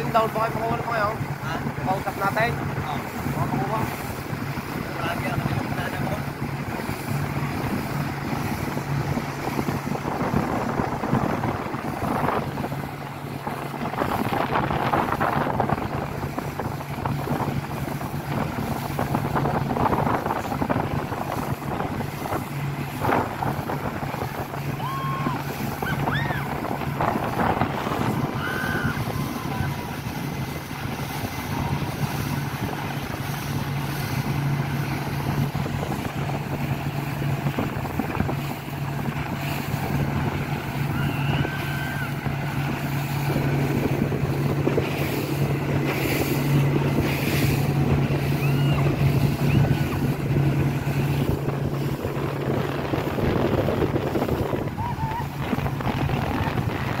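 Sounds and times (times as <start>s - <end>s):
boat wake rushing and splashing: 0.0s - 57.0s
outboard motor running: 0.0s - 57.0s
wind buffeting microphone: 0.0s - 57.0s.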